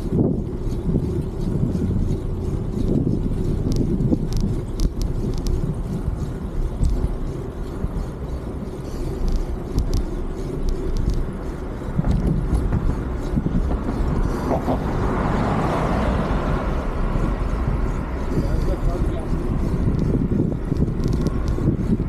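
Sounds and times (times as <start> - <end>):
bicycle clicks and rattles: 0.0 - 22.0
bicycle tyre rumble: 0.0 - 22.0
broad rushing noise: 0.0 - 22.0
wind buffeting microphone: 0.0 - 22.0.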